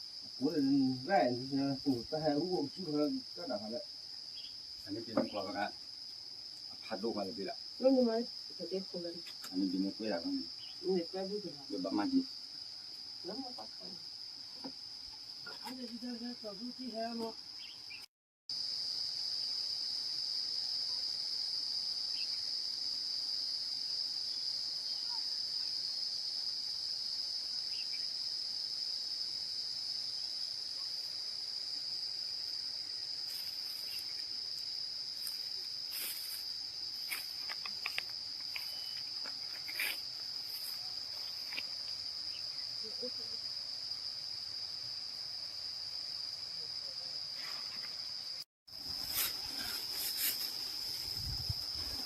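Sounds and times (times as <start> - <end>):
crickets trilling: 0.0 - 52.0.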